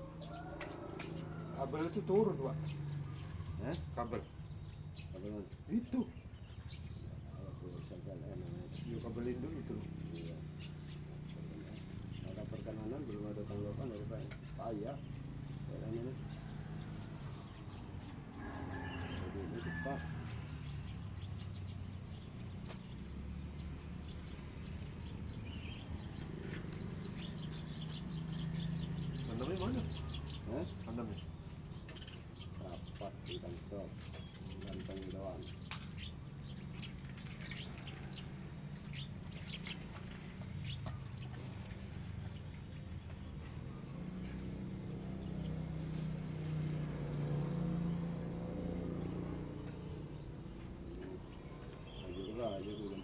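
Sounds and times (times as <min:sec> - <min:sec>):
low engine hum: 0:00.0 - 0:53.0.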